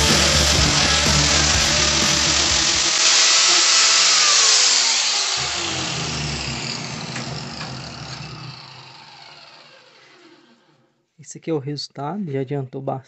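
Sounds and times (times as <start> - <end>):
angle grinder spinning down: 0.0 - 10.8.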